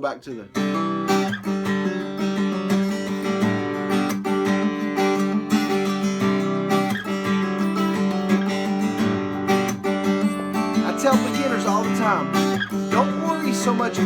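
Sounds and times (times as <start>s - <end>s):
acoustic guitar strumming: 0.2s - 14.0s.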